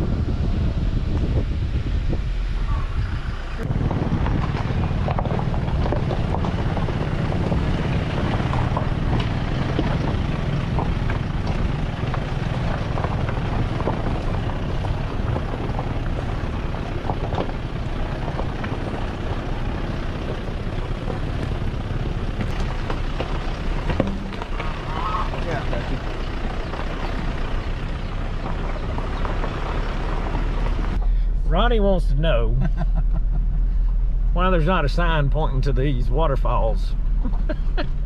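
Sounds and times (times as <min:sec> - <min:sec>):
vehicle engine and road rumble: 0:00.0 - 0:38.0.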